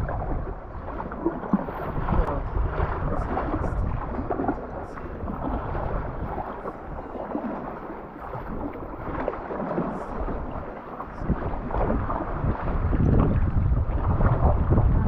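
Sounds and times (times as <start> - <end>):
water splashing around kayak: 0.0 - 15.0
wind rumbling on microphone: 0.0 - 15.0.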